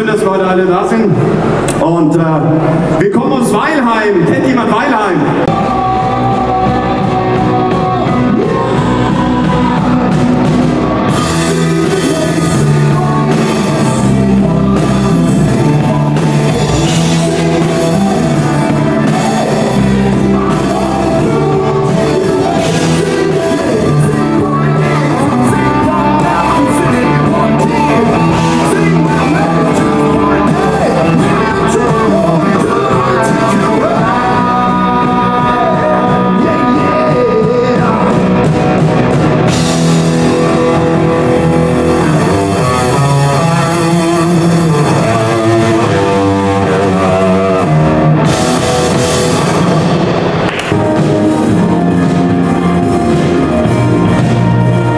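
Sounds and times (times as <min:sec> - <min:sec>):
rock music with singing: 0:00.0 - 0:54.9.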